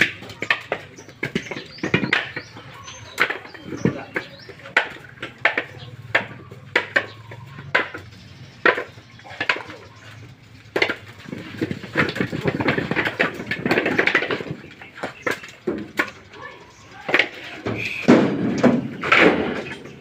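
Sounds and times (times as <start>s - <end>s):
coconuts knocking together: 0.0s - 20.0s.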